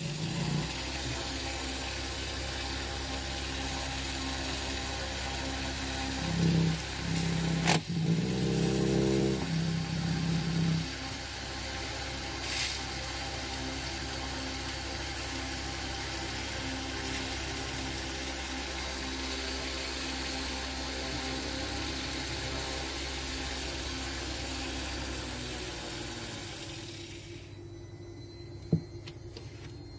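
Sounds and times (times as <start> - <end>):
electric motors whining: 0.0 - 29.9.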